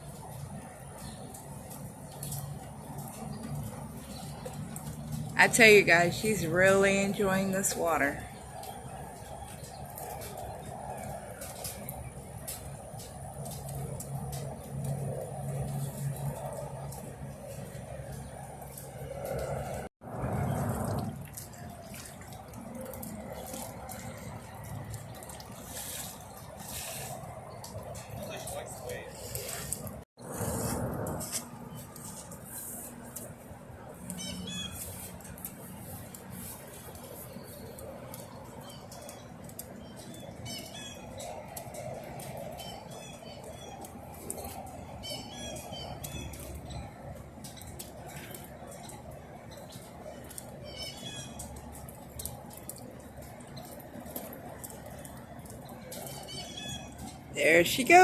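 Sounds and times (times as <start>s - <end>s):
rainwater splashing and trickling: 0.0s - 58.0s.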